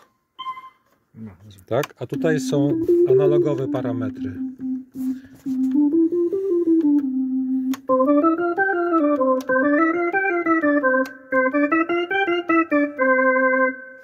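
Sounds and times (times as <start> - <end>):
organ synthesizer melody: 2.0 - 14.0.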